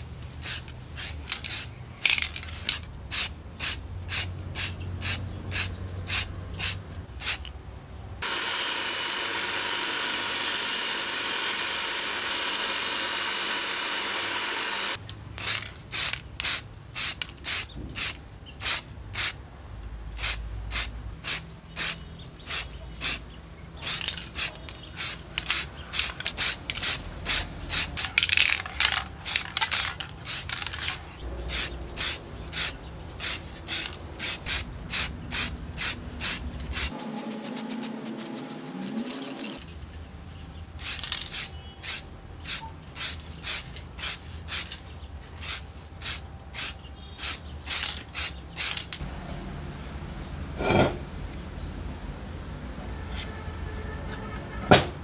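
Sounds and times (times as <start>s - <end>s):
spray paint can hissing bursts: 0.0s - 7.5s, 8.2s - 19.4s, 20.2s - 23.2s, 23.8s - 39.6s, 40.8s - 44.8s, 45.4s - 49.0s.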